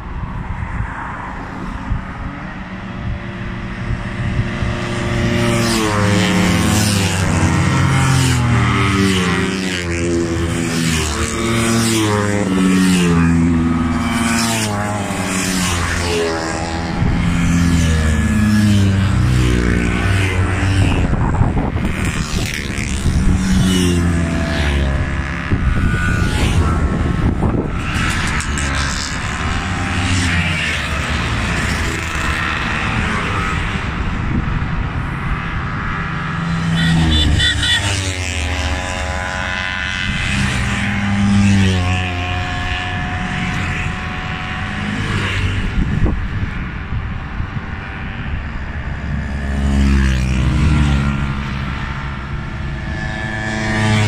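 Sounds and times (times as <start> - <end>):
scooter engines passing: 0.0 - 54.0
wind on microphone: 0.0 - 54.0.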